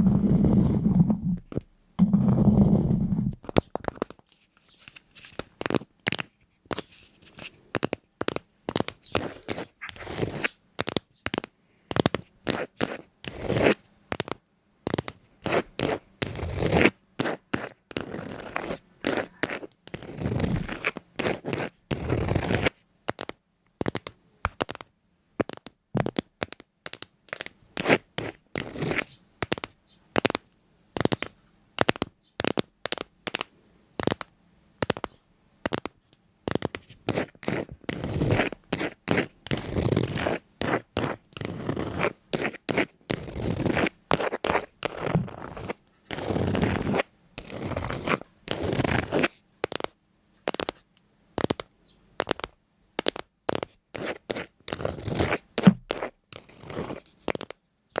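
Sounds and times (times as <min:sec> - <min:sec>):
short scratchy noises: 0:00.0 - 0:24.0, 0:27.4 - 0:30.4, 0:34.9 - 0:49.9, 0:52.2 - 0:58.0.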